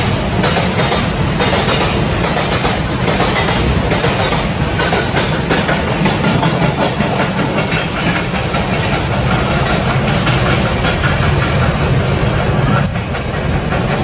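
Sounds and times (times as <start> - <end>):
train wheels rushing on rails: 0.0 - 14.0
wheels clicking over rail joints: 0.0 - 14.0.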